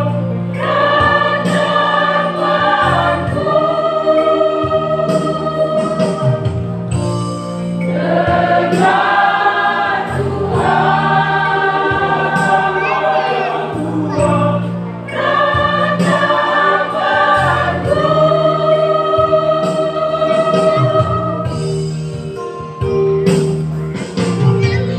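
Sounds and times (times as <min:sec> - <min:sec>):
choir singing a hymn: 0:00.0 - 0:22.4.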